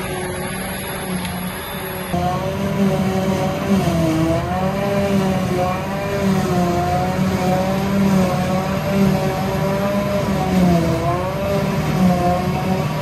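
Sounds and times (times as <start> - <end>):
forage harvester drone and whine: 0.0 - 13.0.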